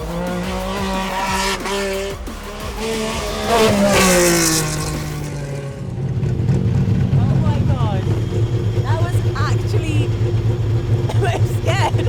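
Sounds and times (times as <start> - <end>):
background music: 0.0 - 12.0
rally car engine running hard: 0.0 - 12.0.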